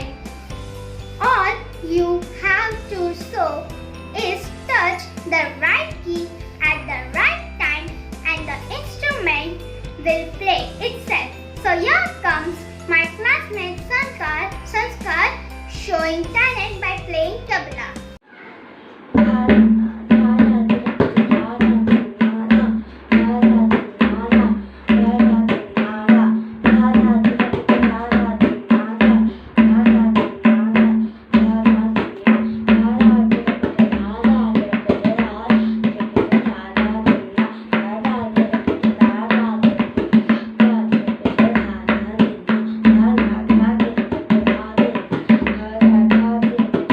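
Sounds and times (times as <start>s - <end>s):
tabla playing: 0.0s - 17.8s, 19.2s - 46.9s.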